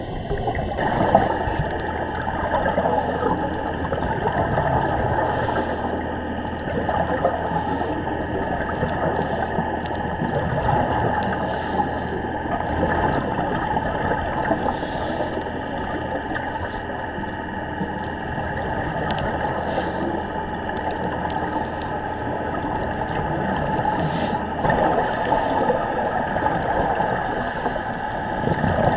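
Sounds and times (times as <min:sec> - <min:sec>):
muffled underwater gurgling: 0:00.0 - 0:28.9.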